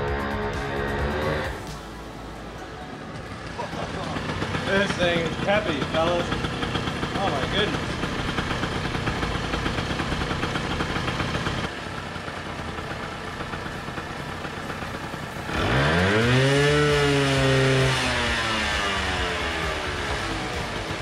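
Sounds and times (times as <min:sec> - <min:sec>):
scooter engine idling and revving: 0:00.0 - 0:21.0.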